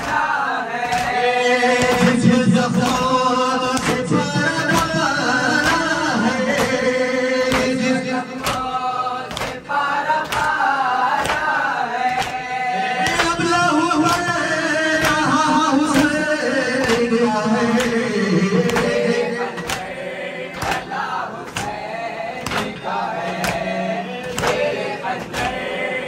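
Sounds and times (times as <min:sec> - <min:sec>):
men chanting a lament: 0:00.0 - 0:26.0
sharp rhythmic strikes: 0:00.0 - 0:26.0.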